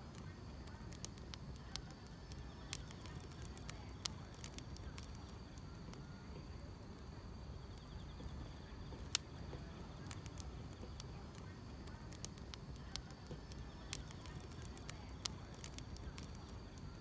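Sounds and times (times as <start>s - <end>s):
fire popping: 0.0s - 17.0s
insects trilling: 0.0s - 17.0s
wood fire crackling: 0.0s - 17.0s.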